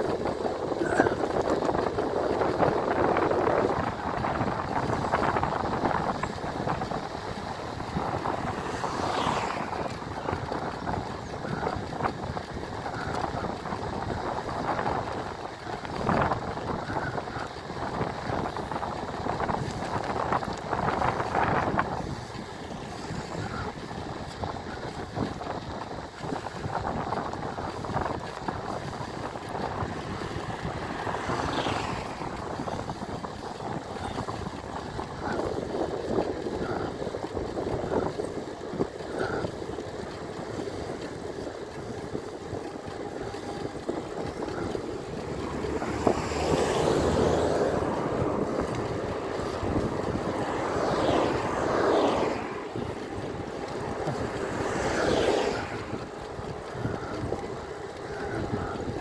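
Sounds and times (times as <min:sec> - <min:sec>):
motor vehicles passing: 0:00.0 - 0:59.0
road noise: 0:00.0 - 0:59.0
wind rumble on microphone: 0:00.0 - 0:59.0.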